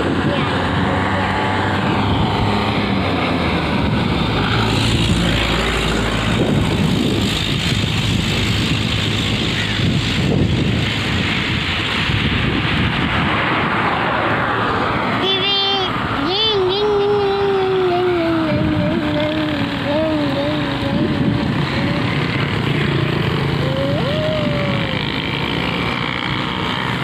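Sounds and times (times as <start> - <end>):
vehicle engine running: 0.0 - 13.2, 15.2 - 27.0
road traffic passing: 0.0 - 27.0
wind noise on microphone: 0.0 - 27.0.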